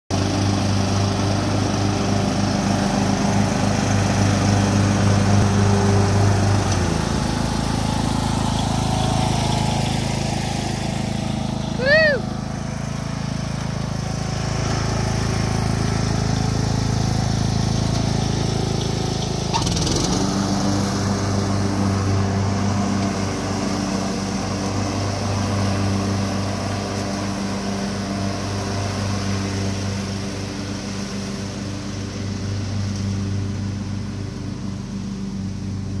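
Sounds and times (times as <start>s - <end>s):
riding lawn mower engine: 0.1s - 36.0s.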